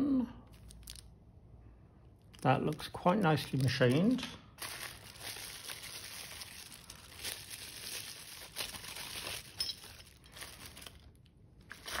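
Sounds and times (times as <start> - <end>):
plastic packaging crinkling: 0.5 - 1.2, 2.2 - 12.0.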